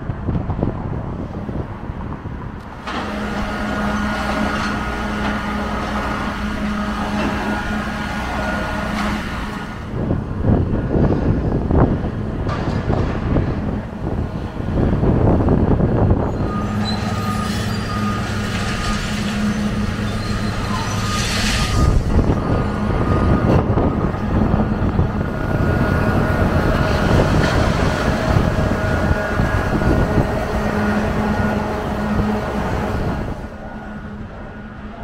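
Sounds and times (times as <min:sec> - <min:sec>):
diesel engine hum: 0:00.0 - 0:35.0
wind on microphone: 0:00.0 - 0:35.0.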